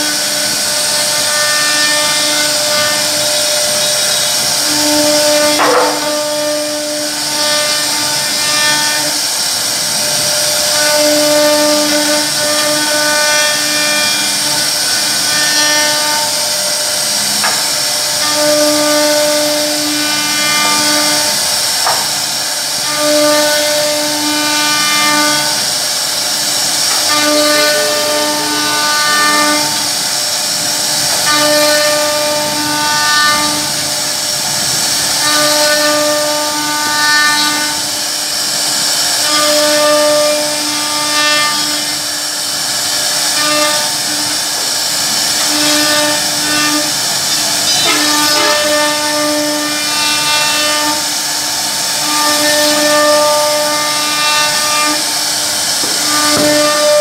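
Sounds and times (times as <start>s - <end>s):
router spindle cutting wood: 0.0s - 57.0s.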